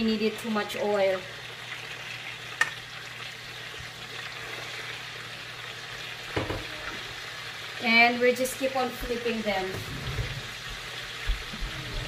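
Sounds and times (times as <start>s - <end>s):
bananas frying in oil: 0.0s - 12.0s.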